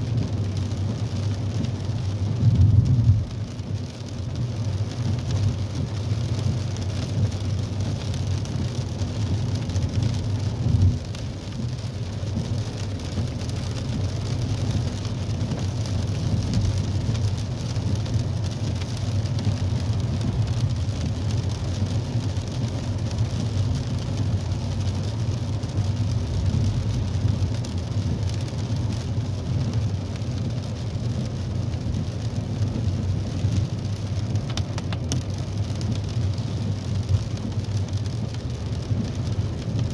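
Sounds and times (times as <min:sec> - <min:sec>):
car engine and tyre rumble: 0:00.0 - 0:39.9
rain and spray hiss: 0:00.0 - 0:39.9.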